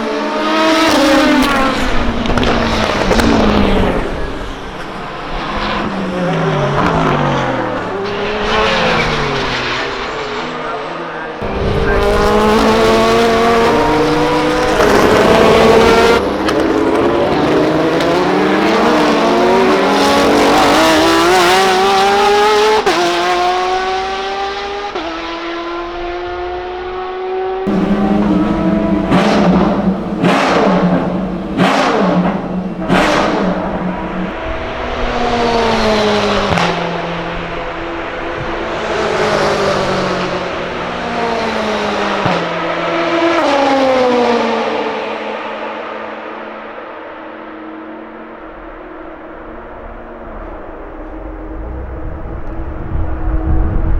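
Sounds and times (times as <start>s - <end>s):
race car engines passing: 0.0s - 53.9s.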